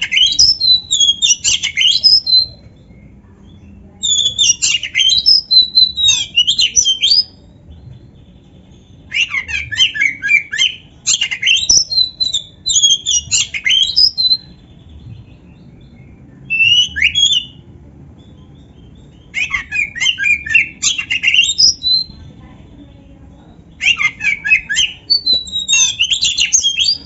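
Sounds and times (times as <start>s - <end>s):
magpie-robin singing: 0.0s - 27.0s.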